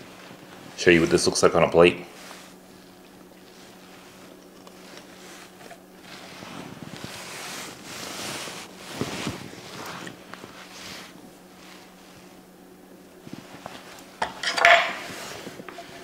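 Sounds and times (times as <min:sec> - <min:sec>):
rustling or scraping: 0:00.0 - 0:12.5, 0:13.2 - 0:16.0
steady low hum: 0:00.0 - 0:16.0.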